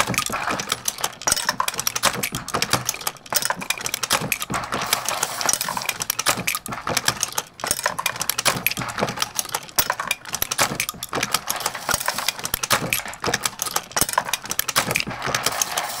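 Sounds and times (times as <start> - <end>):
brass cases clinking: 0.0 - 16.0
reloading press rattling: 0.0 - 16.0.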